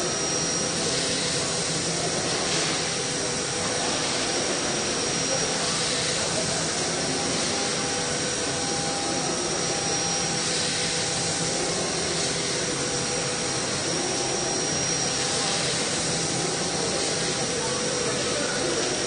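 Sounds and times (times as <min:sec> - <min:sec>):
milling machine spindle whine: 0:00.0 - 0:19.0.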